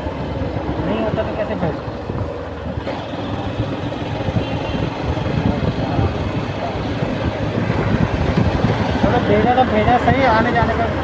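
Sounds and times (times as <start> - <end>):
motorcycle engine rumbling: 0.0 - 11.0
road and traffic noise: 0.0 - 11.0.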